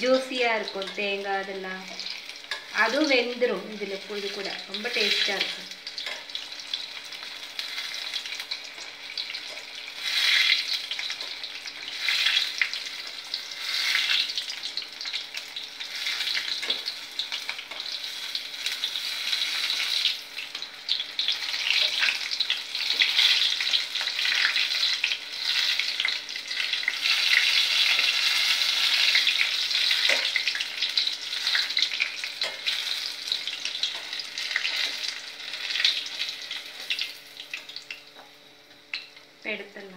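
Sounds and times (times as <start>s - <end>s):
food deep-frying in oil: 0.0s - 39.9s.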